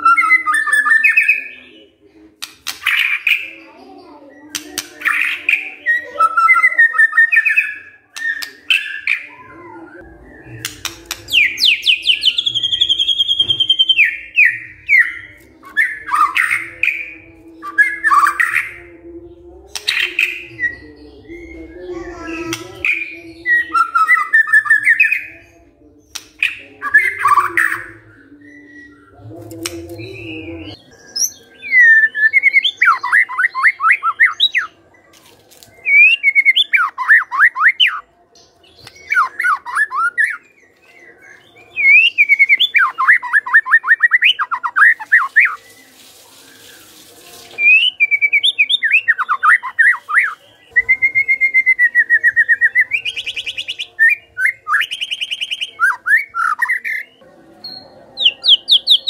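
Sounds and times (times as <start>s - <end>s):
bird singing falling notes: 4.5s - 18.9s, 19.7s - 59.0s.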